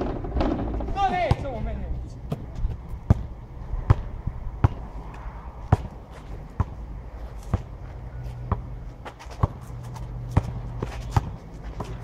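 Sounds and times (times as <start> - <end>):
basketball bouncing on asphalt: 0.0 - 12.0.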